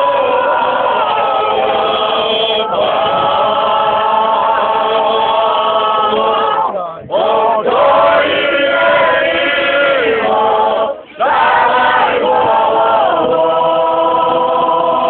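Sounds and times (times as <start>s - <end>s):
group singing folk song: 0.0s - 15.0s.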